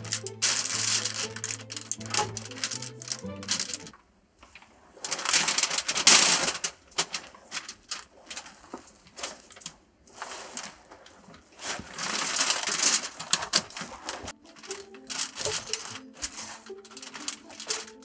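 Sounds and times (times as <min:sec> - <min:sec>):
foil sheet rustling and crinkling: 0:00.0 - 0:18.0.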